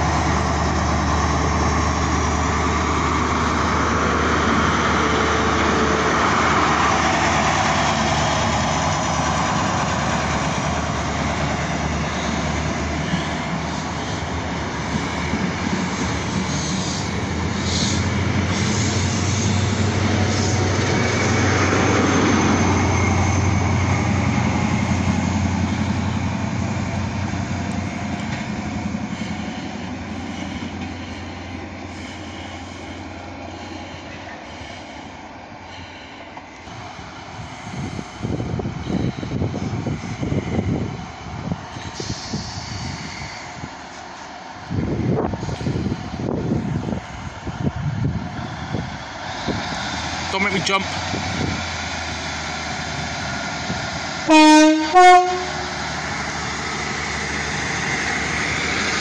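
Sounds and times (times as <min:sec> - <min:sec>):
diesel train engine drone: 0:00.0 - 0:59.0
train wheels on rails: 0:00.0 - 0:59.0.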